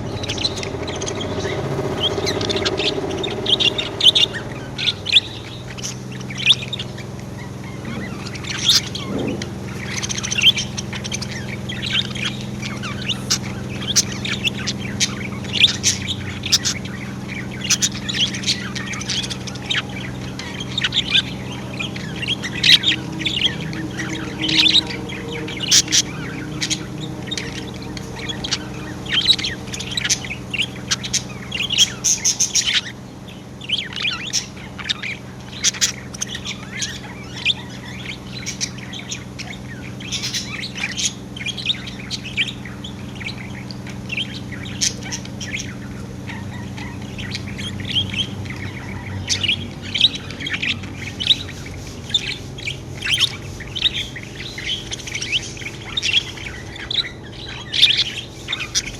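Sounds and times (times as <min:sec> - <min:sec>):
budgerigars chirping: 0:00.0 - 0:58.9.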